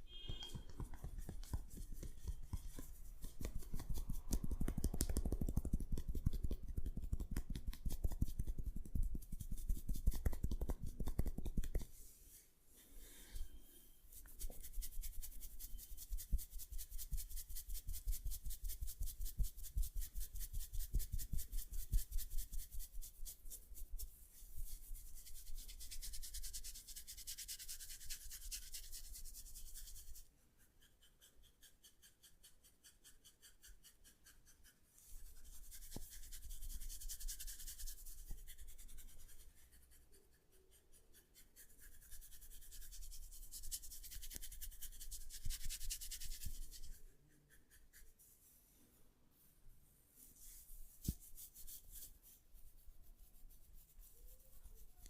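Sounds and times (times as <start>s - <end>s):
hands rubbing hair on scalp: 0.4s - 12.4s, 14.1s - 30.2s, 32.3s - 40.1s, 41.5s - 48.7s, 50.2s - 55.0s.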